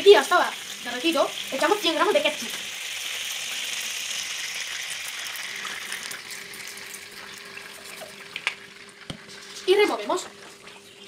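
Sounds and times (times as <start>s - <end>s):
margarine sizzling in a frying pan: 0.0s - 11.0s.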